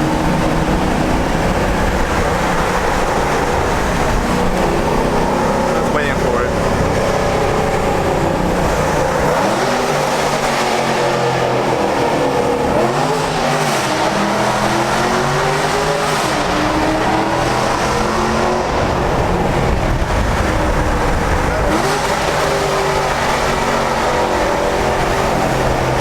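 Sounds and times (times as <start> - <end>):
car engine accelerating in tunnel: 0.0 - 26.0.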